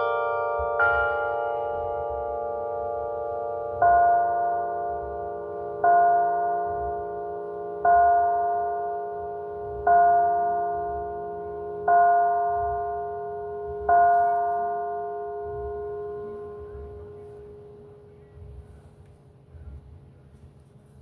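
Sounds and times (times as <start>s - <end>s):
church bell tolling: 0.0s - 19.1s.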